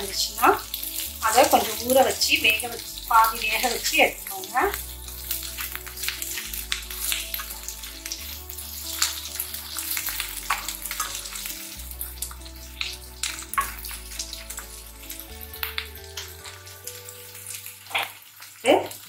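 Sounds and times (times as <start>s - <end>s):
soft background music: 0.0s - 19.0s
vegetables sizzling in hot oil: 0.0s - 19.0s.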